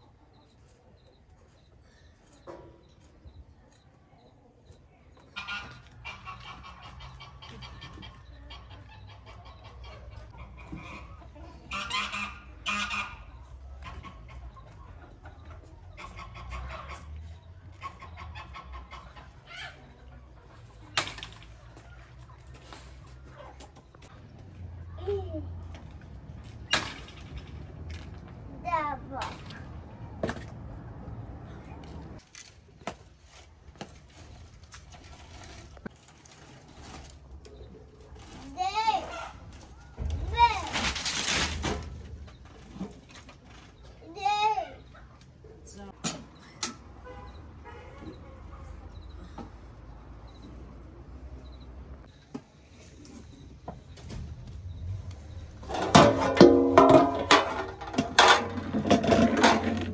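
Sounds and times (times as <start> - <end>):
hens and roosters clucking: 0.0 - 28.5, 34.1 - 59.9.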